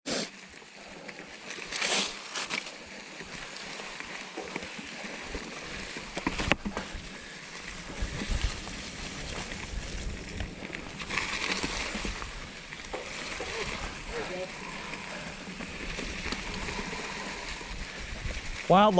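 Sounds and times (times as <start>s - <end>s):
mountain bike rolling on trail: 0.3s - 18.9s
bike rattles and clicks: 0.7s - 18.7s.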